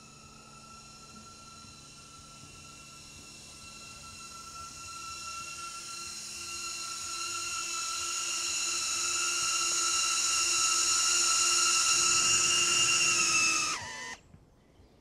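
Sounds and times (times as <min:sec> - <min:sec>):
drone propellers whining: 0:00.0 - 0:14.2.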